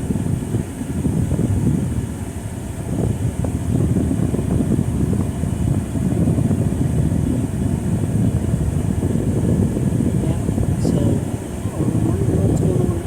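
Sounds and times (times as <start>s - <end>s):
air conditioning blowing: 0.0s - 13.0s
road and engine noise in car: 0.0s - 13.0s.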